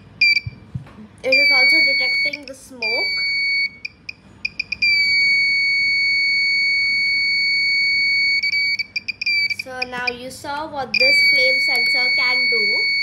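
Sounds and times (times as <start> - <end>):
alarm buzzer high tone: 1.3 - 9.8, 11.0 - 13.0.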